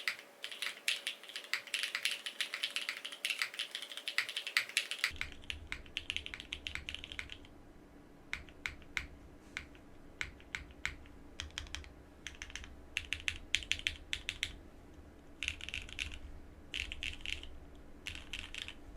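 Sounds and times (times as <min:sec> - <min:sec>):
mechanical keyboard typing: 0:00.0 - 0:07.5, 0:08.3 - 0:14.6, 0:15.4 - 0:18.8
faint low hum: 0:00.0 - 0:18.9.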